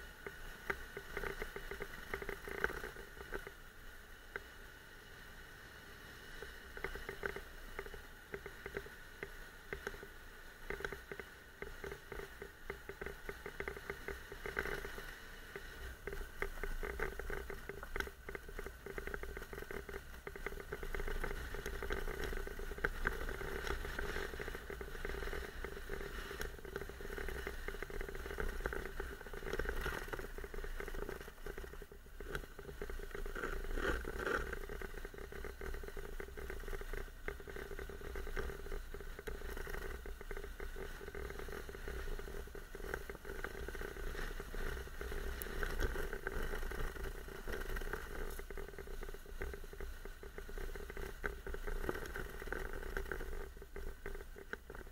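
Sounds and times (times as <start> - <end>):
small knocks and rattles: 0.0 - 3.6, 6.8 - 54.9
motorcycle engine running: 6.4 - 54.9.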